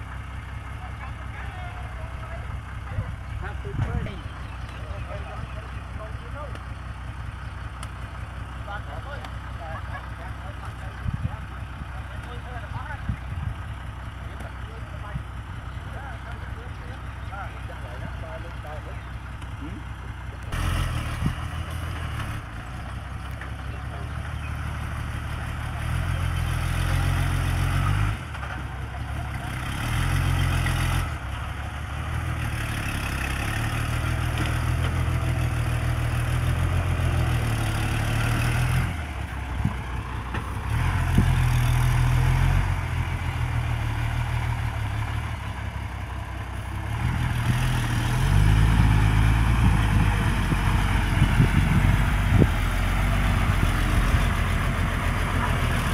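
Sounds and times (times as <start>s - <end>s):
dump truck diesel engine revving: 0.0s - 55.9s.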